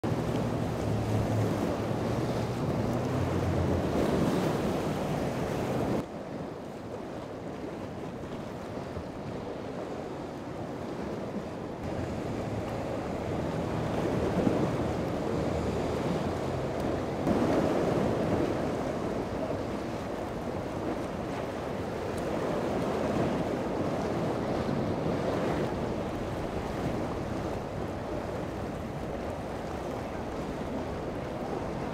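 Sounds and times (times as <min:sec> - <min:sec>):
boat engine humming: 0:00.0 - 0:31.9
waves and surf churning: 0:00.0 - 0:31.9
wind buffeting microphone: 0:00.0 - 0:31.9.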